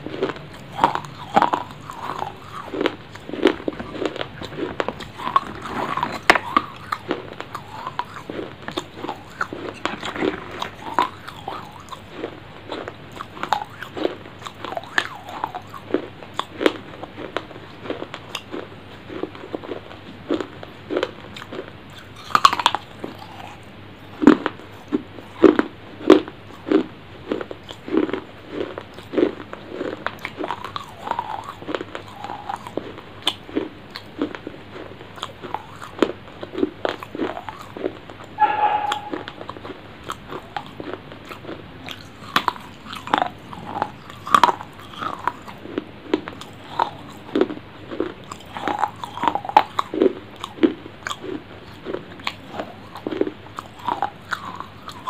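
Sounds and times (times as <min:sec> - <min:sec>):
crunchy chewing: 0:00.0 - 0:39.1, 0:40.0 - 0:55.0.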